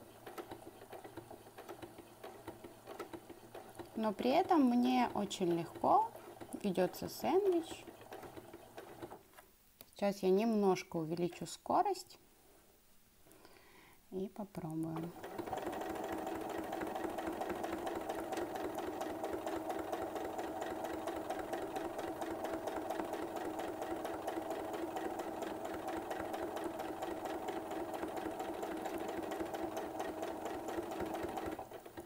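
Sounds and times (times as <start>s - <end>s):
sewing machine stitching rapidly: 0.0s - 9.2s, 15.0s - 32.0s.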